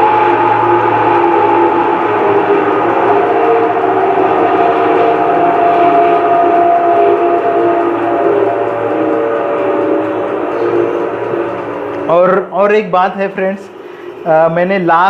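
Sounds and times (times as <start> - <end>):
hydro extractor drum whining: 0.0 - 15.0.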